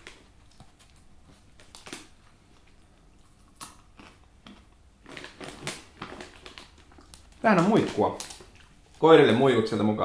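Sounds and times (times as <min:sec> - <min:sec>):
dried dog treats crunching: 0:00.0 - 0:09.5.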